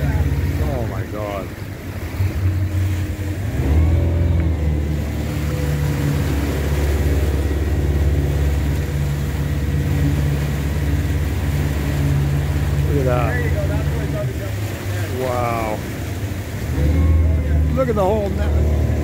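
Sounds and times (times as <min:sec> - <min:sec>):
boat engine drone: 0:00.0 - 0:19.0
water rushing in wake: 0:00.0 - 0:19.0.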